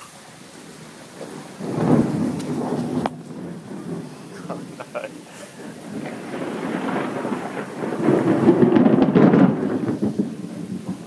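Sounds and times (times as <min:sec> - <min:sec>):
falling rain: 0:00.0 - 0:11.0
crackling thunder rumble: 0:00.7 - 0:11.0.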